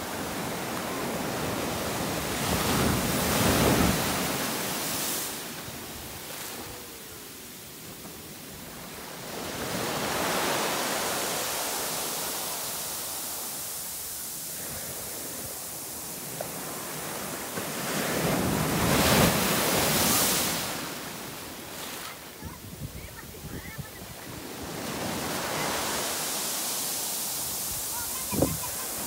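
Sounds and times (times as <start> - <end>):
waves breaking on sandy beach: 0.0 - 29.0.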